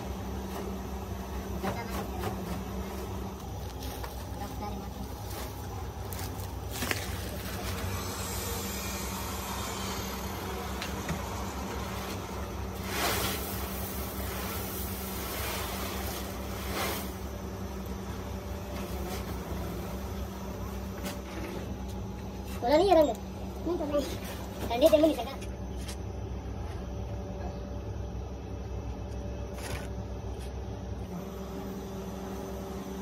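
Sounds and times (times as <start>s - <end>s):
factory machinery humming: 0.0s - 33.0s.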